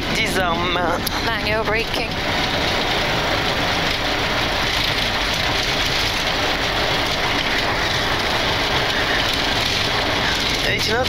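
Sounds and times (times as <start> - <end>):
aircraft rolling and braking: 0.0 - 11.0
jet engines in reverse thrust: 0.0 - 11.0.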